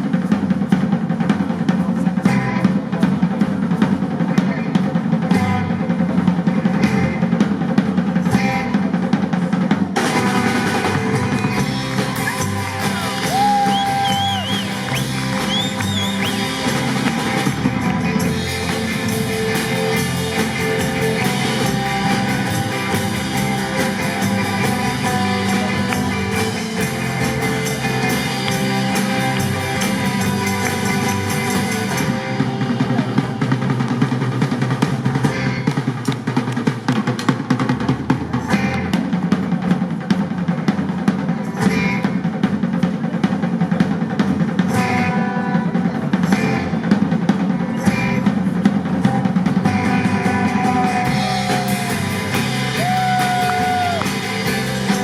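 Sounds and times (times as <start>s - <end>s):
busy drum kit: 0.0s - 55.0s
live rock band: 0.0s - 55.0s.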